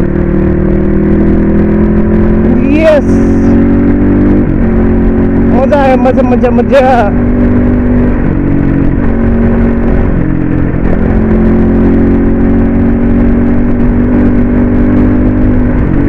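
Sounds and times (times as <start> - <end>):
dirt bike engine running: 0.0 - 16.0
road and wind noise: 0.0 - 16.0.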